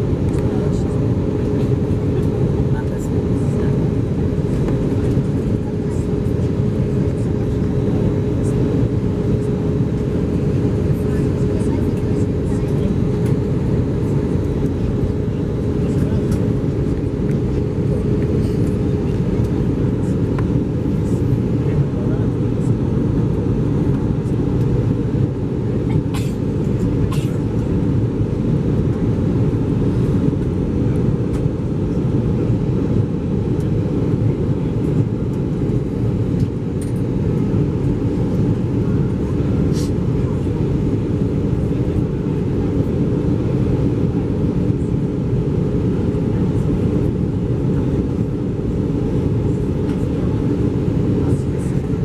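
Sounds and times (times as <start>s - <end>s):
airliner cabin rumble: 0.0s - 52.0s.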